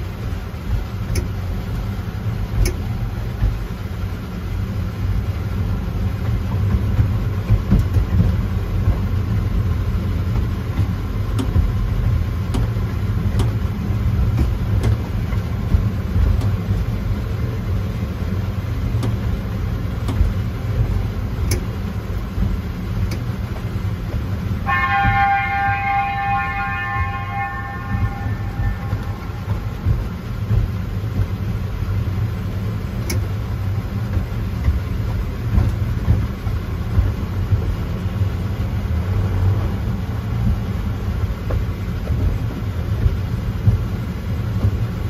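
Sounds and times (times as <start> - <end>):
miniature train rumbling: 0.0 - 45.0
train track clicks: 0.0 - 45.0.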